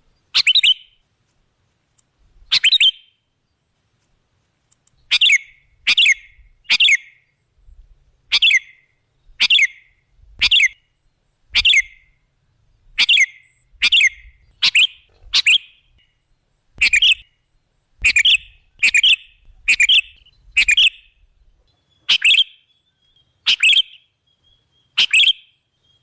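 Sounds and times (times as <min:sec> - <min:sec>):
bulbul calling: 0:00.2 - 0:01.0, 0:02.4 - 0:03.1, 0:05.0 - 0:07.4, 0:08.3 - 0:22.7, 0:23.4 - 0:26.0.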